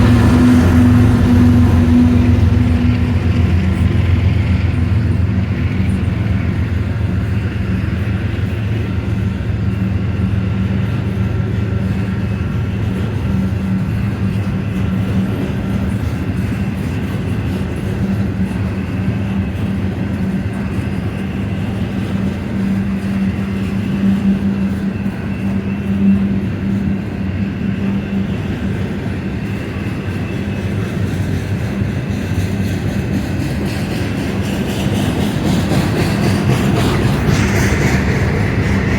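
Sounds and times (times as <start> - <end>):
freight train passing: 0.0 - 38.9.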